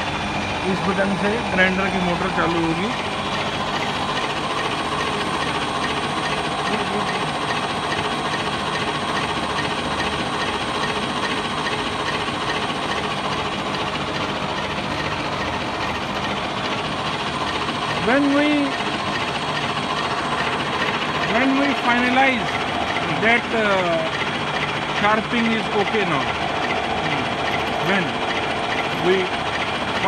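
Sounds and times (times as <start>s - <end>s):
electric motor hum: 0.0s - 30.0s
machine whirring: 0.0s - 30.0s.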